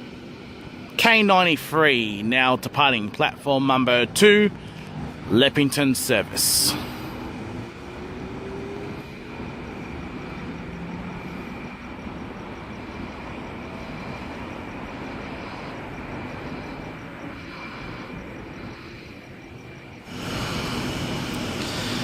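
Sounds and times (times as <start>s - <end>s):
train wheels and motors rumbling: 0.0s - 22.0s.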